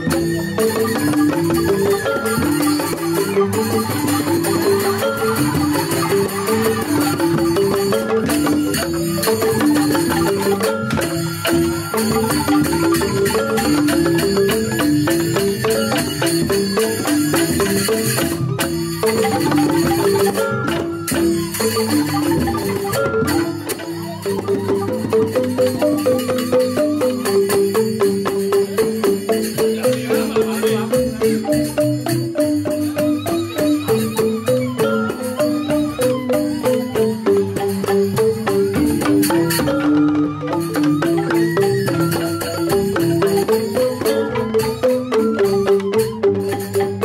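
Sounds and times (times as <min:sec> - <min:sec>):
bamboo xylophones playing: 0:00.0 - 0:47.0
percussion: 0:00.0 - 0:47.0.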